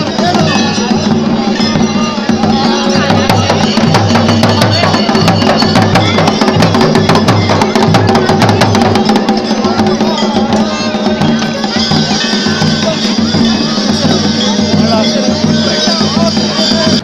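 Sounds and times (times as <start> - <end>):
fast dense folk drumming: 0.0 - 17.0.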